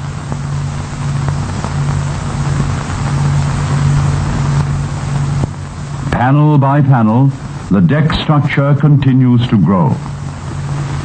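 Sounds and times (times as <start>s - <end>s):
background hiss: 0.0s - 11.0s
engine low drone: 0.0s - 11.0s.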